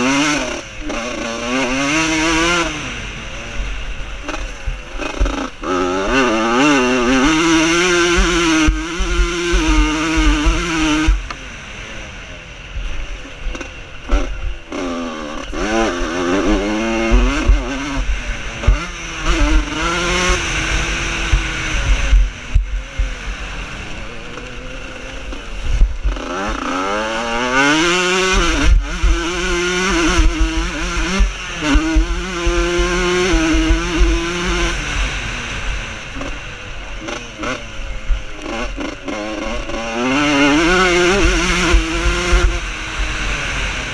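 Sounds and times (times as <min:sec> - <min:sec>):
motorcycles racing revving: 0:00.0 - 0:43.9.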